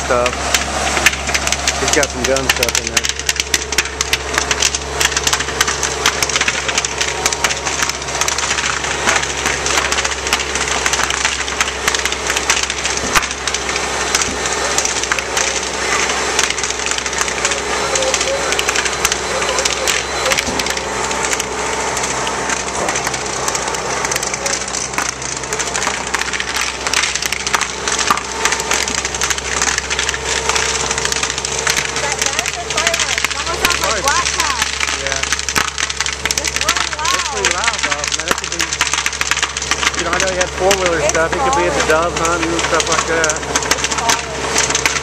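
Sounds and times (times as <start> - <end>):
fire crackling and popping: 0.0 - 45.0
fire truck engines droning: 0.0 - 45.0.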